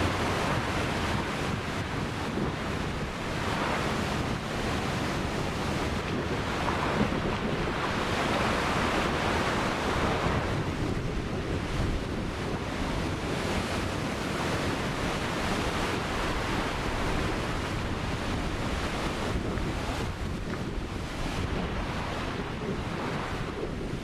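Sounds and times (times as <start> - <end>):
waves breaking on shore: 0.0 - 24.0
wind on microphone: 0.0 - 24.0.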